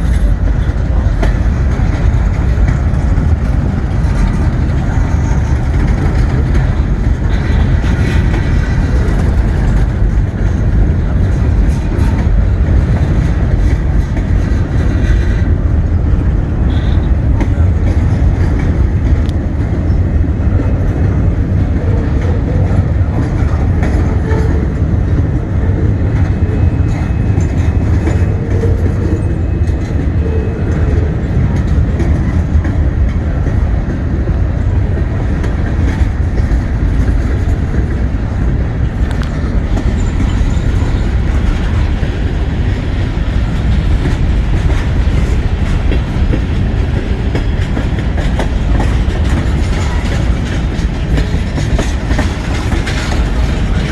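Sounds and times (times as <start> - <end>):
freight train rumbling past: 0.0 - 53.9
steel wheels clattering over rail joints: 0.0 - 53.9.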